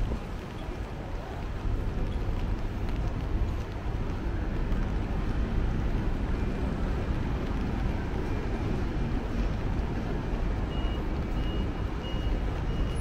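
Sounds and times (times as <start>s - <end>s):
low rumble of passing traffic: 0.0s - 13.0s.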